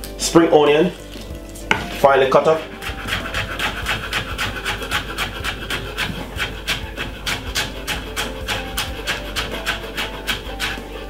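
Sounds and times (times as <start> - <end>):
knife chopping on wooden board: 1.6 - 11.0.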